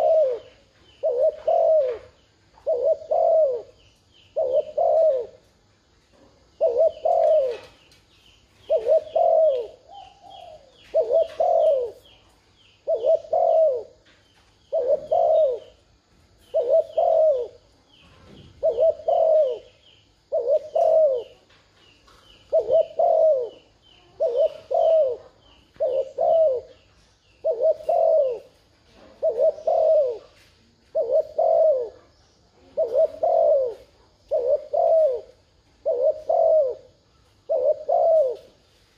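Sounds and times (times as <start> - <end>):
dove cooing: 0.0 - 5.5, 6.5 - 7.8, 8.6 - 14.1, 14.7 - 21.5, 22.3 - 38.6
small bird chirping: 0.0 - 38.9.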